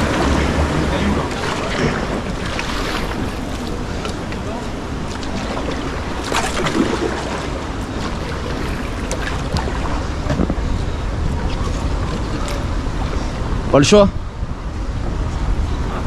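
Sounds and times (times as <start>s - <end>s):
water around kayak: 0.0s - 16.0s
wind buffeting microphone: 0.0s - 16.0s.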